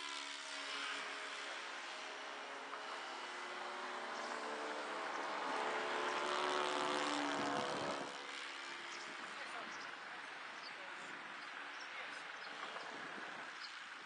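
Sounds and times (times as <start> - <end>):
model airplane engine in flight: 0.0 - 14.0.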